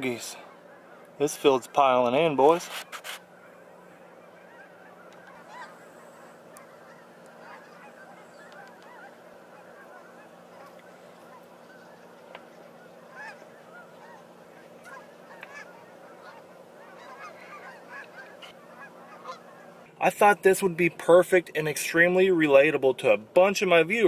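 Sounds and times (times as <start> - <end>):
flock of geese honking: 0.0 - 24.0.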